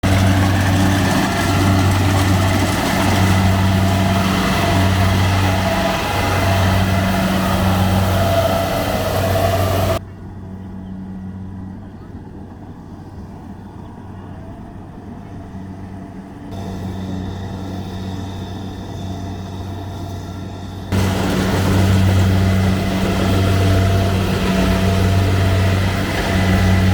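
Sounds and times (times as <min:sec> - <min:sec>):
combine harvester engine hum: 0:00.0 - 0:26.9.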